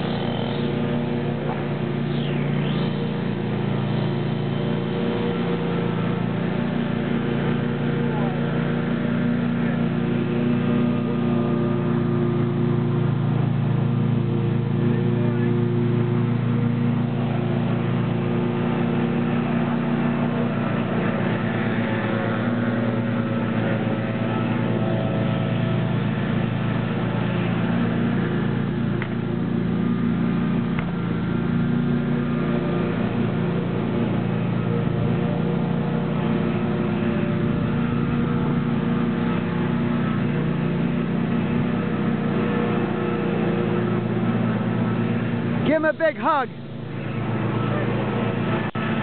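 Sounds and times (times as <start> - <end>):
leaf blowers and lawnmowers running: 0.0 - 49.0.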